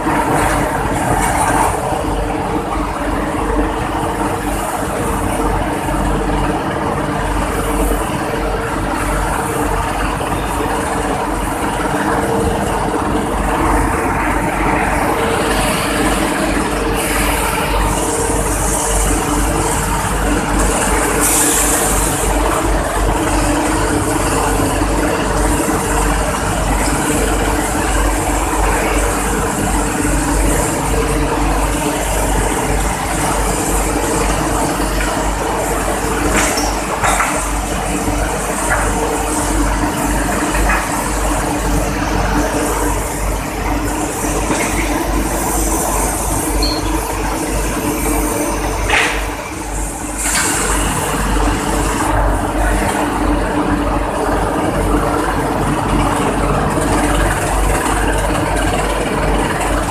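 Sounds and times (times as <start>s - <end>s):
rolling mill drone: 0.0s - 59.9s.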